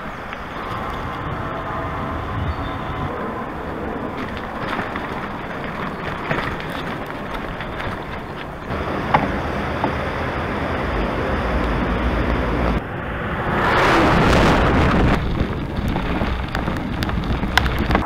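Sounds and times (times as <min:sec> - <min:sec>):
wind rushing over microphone: 0:00.0 - 0:08.1, 0:08.7 - 0:18.0.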